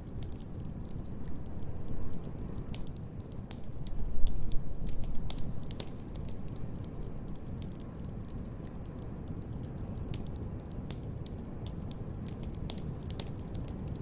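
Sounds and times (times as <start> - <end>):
fire pops: 0.0 - 14.0
wood fire crackling: 0.0 - 14.0.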